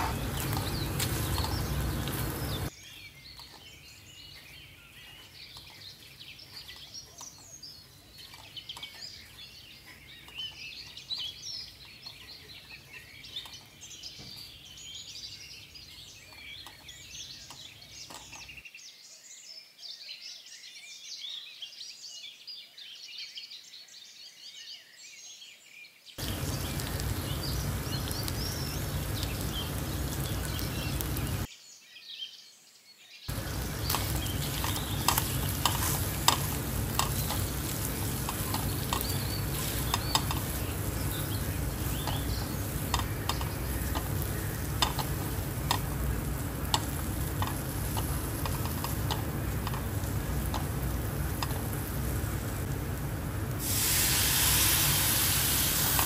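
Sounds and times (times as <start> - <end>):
birds chirping and singing: 0.0 - 53.0.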